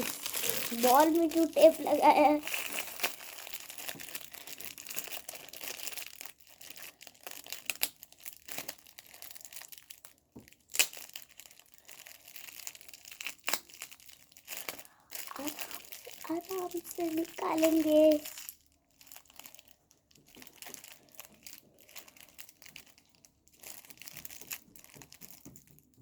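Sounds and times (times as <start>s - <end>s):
packaging and tape crinkling: 0.0s - 26.0s.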